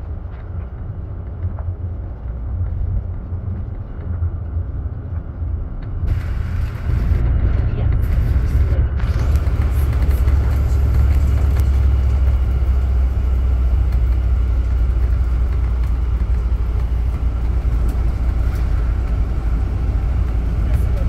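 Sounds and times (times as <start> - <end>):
bus engine rumble: 0.0 - 21.0
road and tyre noise: 0.0 - 21.0.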